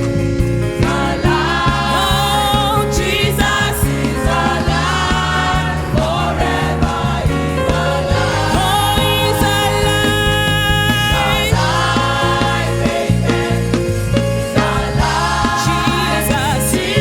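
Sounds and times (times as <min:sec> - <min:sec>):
band accompaniment: 0:00.0 - 0:17.0
gospel choir singing: 0:00.0 - 0:17.0.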